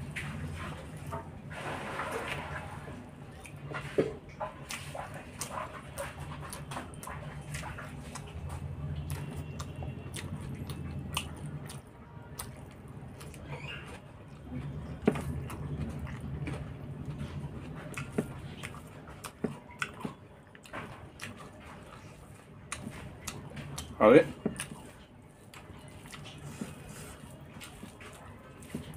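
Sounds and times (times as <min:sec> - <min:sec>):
chewing and mouth smacks: 0:02.1 - 0:28.9.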